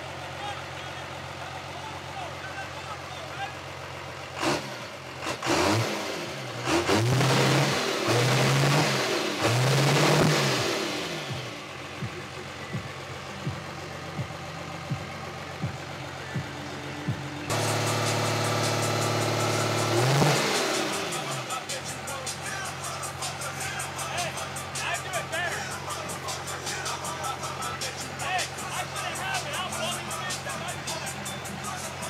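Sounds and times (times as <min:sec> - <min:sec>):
steady engine drone: 0:00.0 - 0:32.0
pickup truck engine revving: 0:03.5 - 0:32.0.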